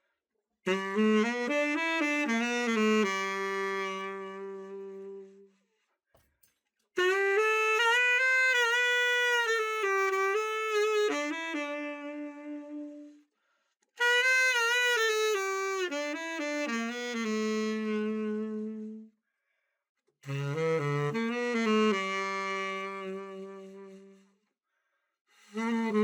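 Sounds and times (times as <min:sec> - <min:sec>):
tenor saxophone playing: 0:00.7 - 0:05.5, 0:07.0 - 0:13.2, 0:14.0 - 0:19.1, 0:20.2 - 0:24.3, 0:25.4 - 0:26.0.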